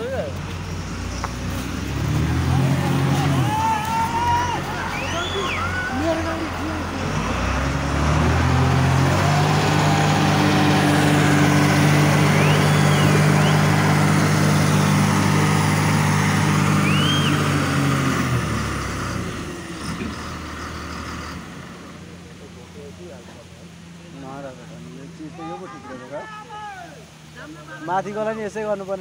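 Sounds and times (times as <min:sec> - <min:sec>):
heavy vehicle engine running: 0:00.0 - 0:25.2.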